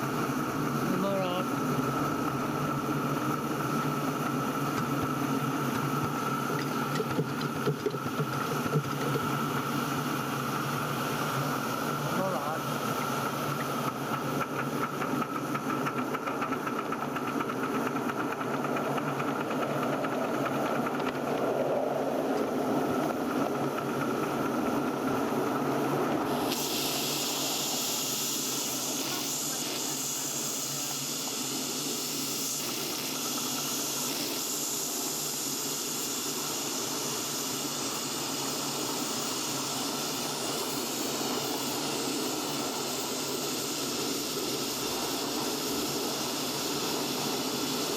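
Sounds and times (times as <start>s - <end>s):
steam hissing: 0.0s - 47.9s.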